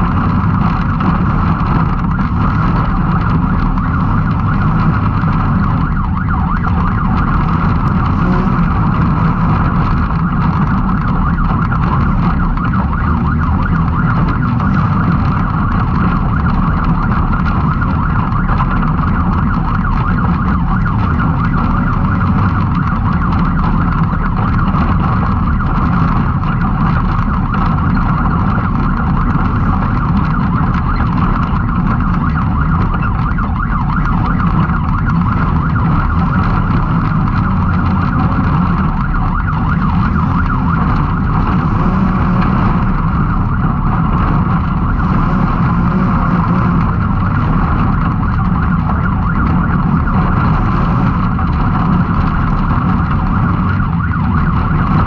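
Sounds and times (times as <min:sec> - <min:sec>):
engine running at high revs: 0:00.0 - 0:55.0.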